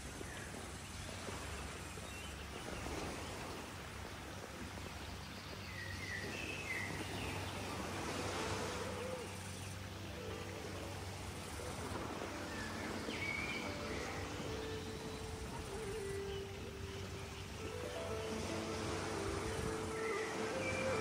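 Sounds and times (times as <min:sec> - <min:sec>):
outdoor ambient noise: 0:00.0 - 0:21.0.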